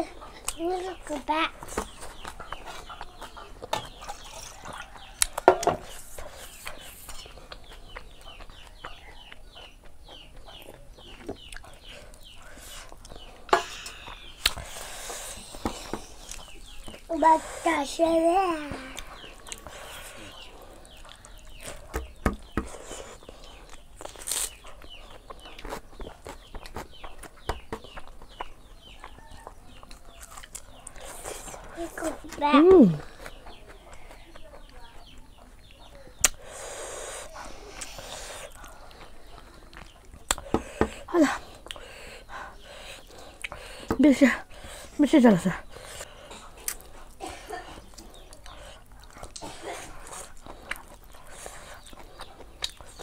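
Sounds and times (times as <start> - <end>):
chicks peeping: 0.0 - 53.0
mouth chewing clicks and smacks: 0.1 - 17.2, 18.9 - 45.0, 45.6 - 53.0.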